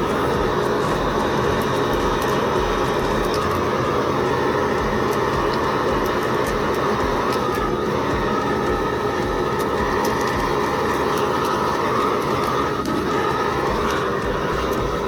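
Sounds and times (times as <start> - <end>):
gas torch flame jet: 0.0 - 15.0
wood crackling: 0.0 - 15.0.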